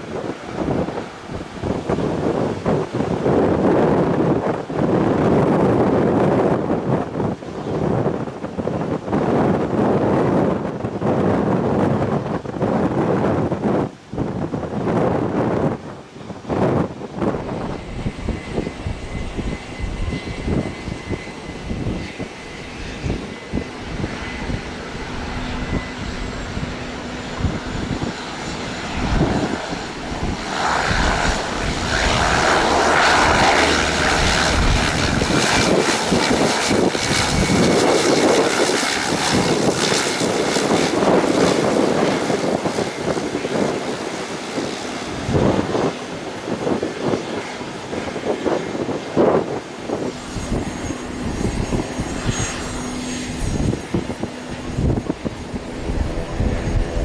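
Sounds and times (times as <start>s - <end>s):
aeroplane engines: 0.0s - 57.0s
wind buffeting microphone: 0.0s - 57.0s.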